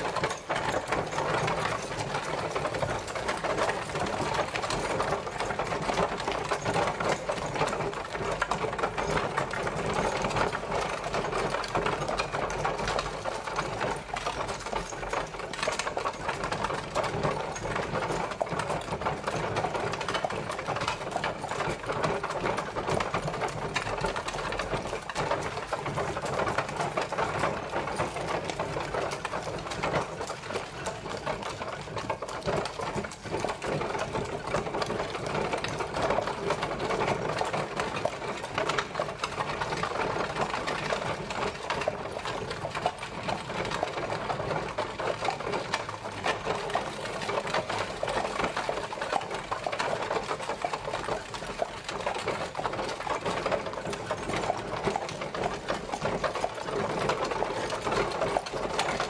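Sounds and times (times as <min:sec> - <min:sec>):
carriage rattling and clattering: 0:00.0 - 0:59.0.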